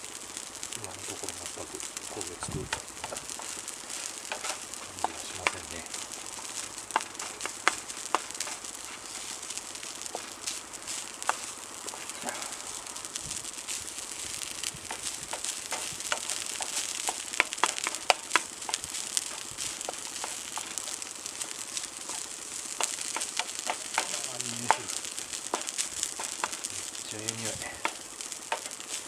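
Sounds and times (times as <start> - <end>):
food sizzling in frying pan: 0.0 - 29.0.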